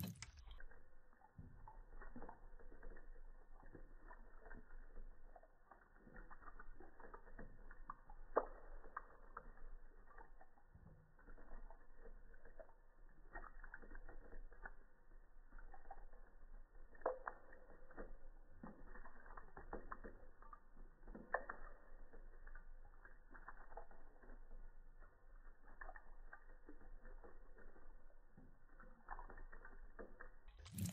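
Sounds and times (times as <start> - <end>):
slowed cat lapping water: 0.0 - 30.9.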